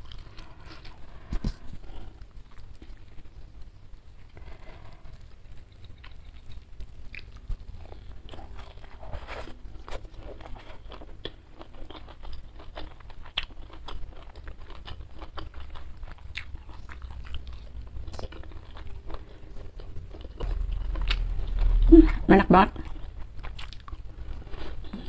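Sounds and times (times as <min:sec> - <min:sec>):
person chewing food: 0:00.0 - 0:22.2, 0:22.8 - 0:25.0.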